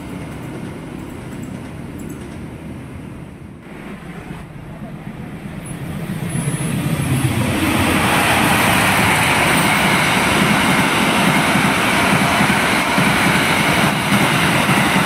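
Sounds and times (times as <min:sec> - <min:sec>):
locomotive engine passing: 0:00.0 - 0:15.0
train wheels rushing on rails: 0:00.0 - 0:15.0.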